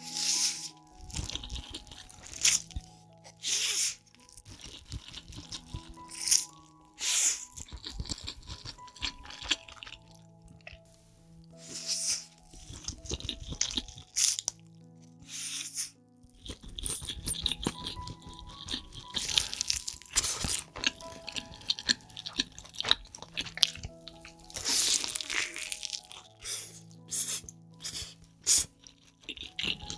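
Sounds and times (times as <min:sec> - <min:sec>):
person crunching and chewing food: 0:00.0 - 0:29.9
soft background music: 0:00.0 - 0:29.9.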